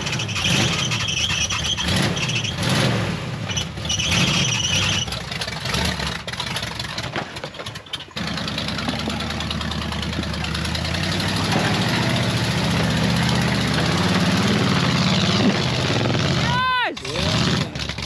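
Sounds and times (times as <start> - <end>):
vehicle engine revving: 0.0 - 7.3, 8.1 - 18.0.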